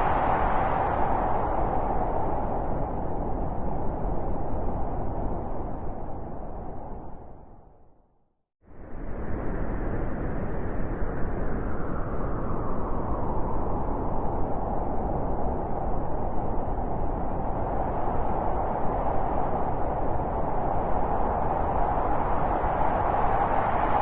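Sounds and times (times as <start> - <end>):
blizzard wind howling: 0.0 - 8.0, 8.6 - 24.0.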